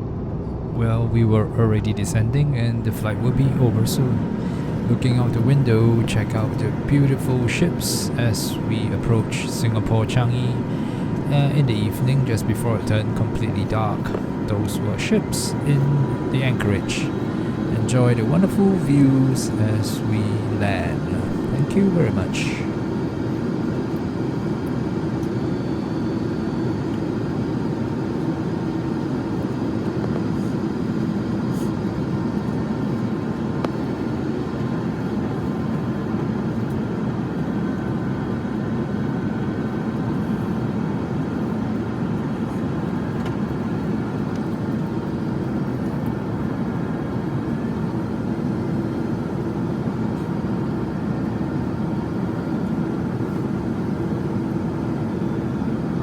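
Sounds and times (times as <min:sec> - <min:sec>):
low steady hum: 0:00.0 - 0:55.8
airliner cabin engine and airflow rush: 0:00.0 - 0:56.0.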